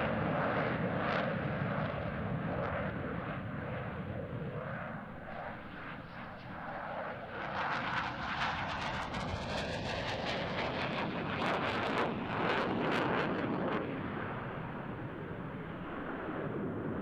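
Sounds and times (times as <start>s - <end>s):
jet engine roar with crackle: 0.0s - 17.0s.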